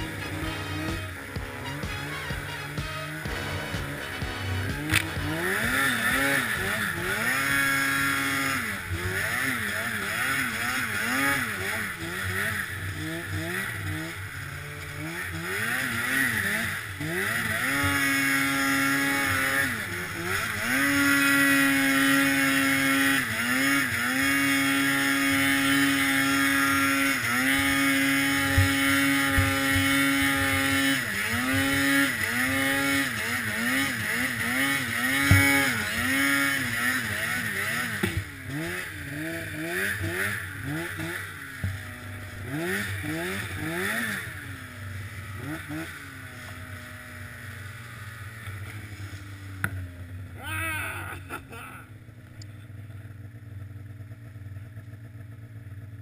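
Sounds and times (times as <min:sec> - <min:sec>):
snowmobile engine revving: 0:00.0 - 0:54.2.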